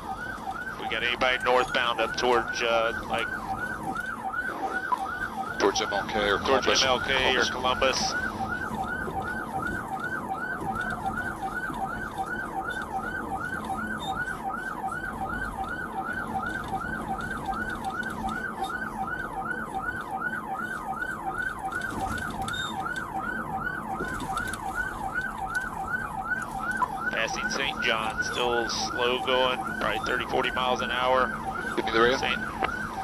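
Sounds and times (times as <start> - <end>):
police siren yelping: 0.0 - 33.0.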